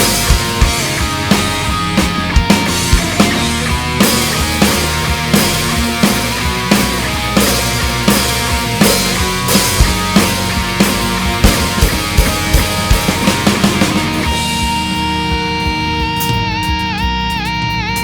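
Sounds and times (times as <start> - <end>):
distorted electric guitar: 0.0 - 18.0
drums: 0.0 - 18.0.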